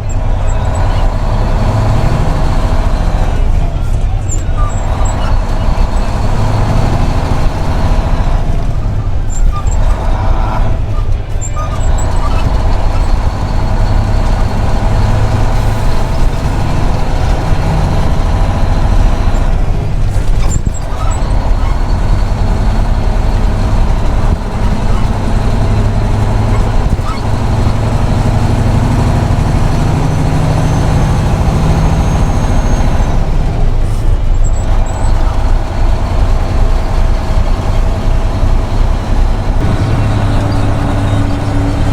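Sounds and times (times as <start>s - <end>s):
truck engine drone: 0.0s - 41.9s.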